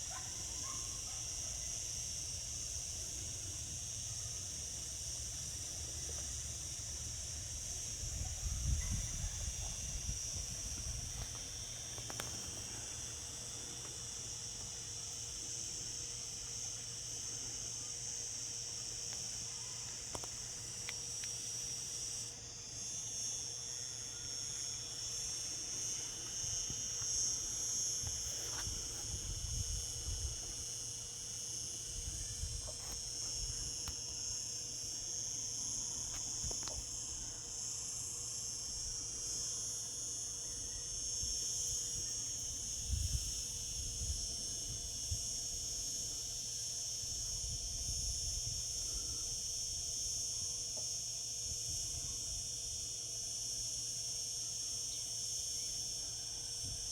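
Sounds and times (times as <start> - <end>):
cicadas singing: 0.0 - 56.9.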